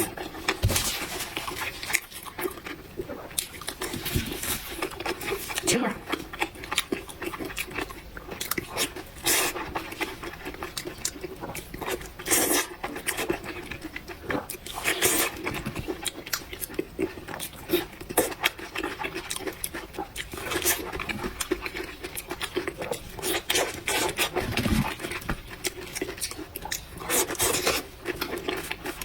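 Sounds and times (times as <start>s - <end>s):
chewing and crunching food: 0.0s - 29.0s.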